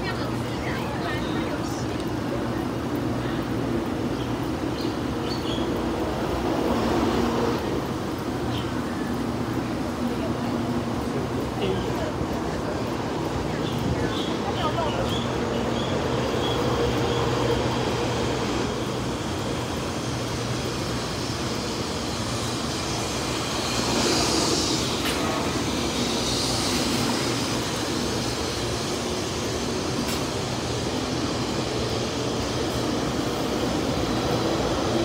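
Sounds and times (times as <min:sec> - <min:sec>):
train rolling with motor hum: 0:00.0 - 0:35.0.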